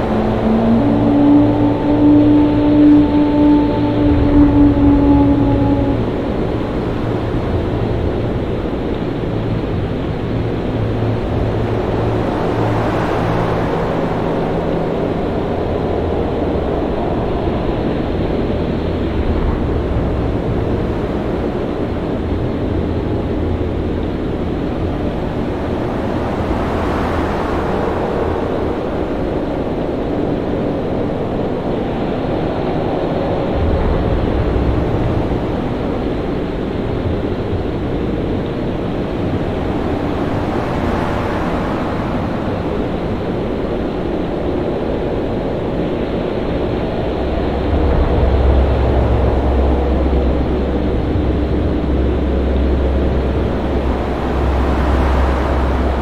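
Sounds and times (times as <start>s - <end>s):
surf: 0.0s - 56.0s
waves swelling: 0.0s - 56.0s
wind: 0.0s - 56.0s.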